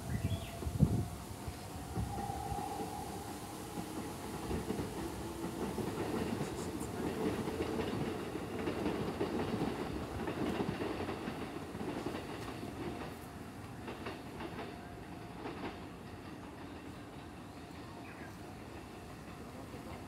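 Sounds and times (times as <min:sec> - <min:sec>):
electric train rumble: 0:00.0 - 0:20.0.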